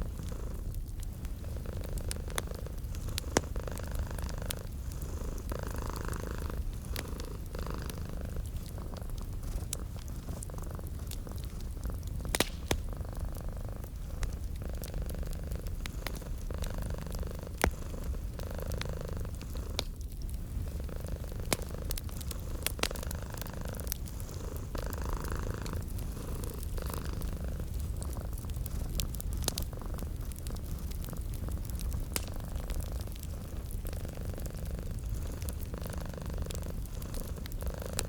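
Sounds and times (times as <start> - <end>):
cat purring: 0.0 - 38.0
wood fire crackling: 0.0 - 38.0.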